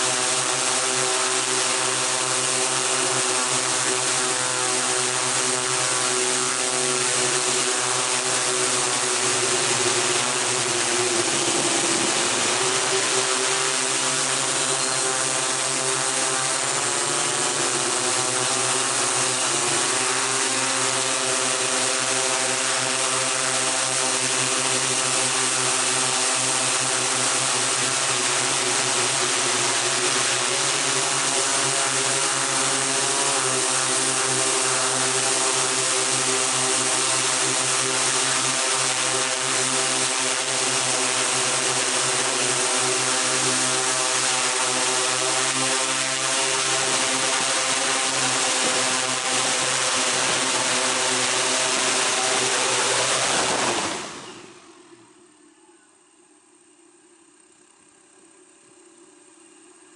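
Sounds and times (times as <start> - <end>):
drone propellers whirring: 0.0 - 59.9.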